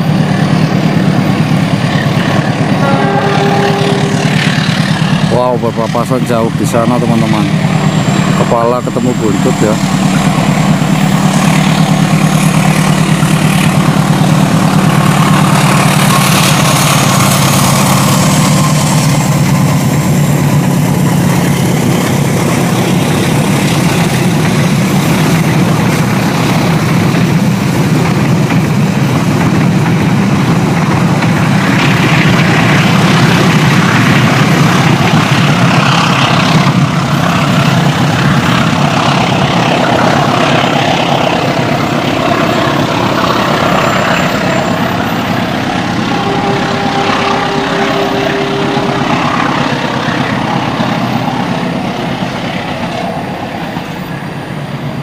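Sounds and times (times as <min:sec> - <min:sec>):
locomotive engine humming: 0:00.0 - 0:55.0
train coaches rolling on rails: 0:00.0 - 0:55.0.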